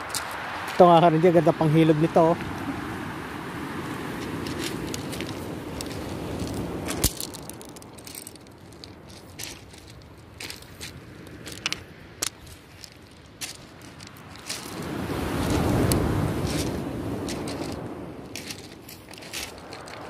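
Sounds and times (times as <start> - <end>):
footsteps on pebbles: 0.0 - 0.9, 4.0 - 20.0.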